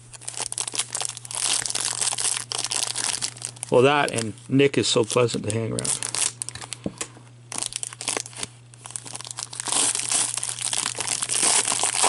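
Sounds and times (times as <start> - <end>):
foil wrapper crinkling: 0.0 - 6.8, 7.5 - 12.0.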